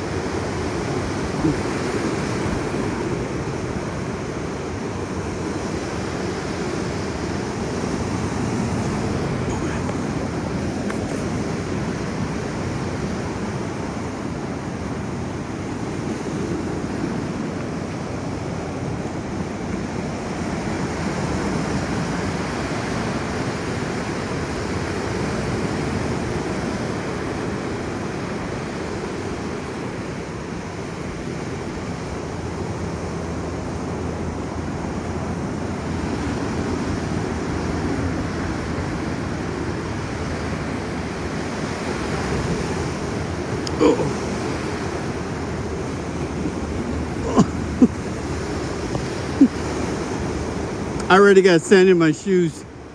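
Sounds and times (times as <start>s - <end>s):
ocean surf on beach: 0.0s - 52.9s.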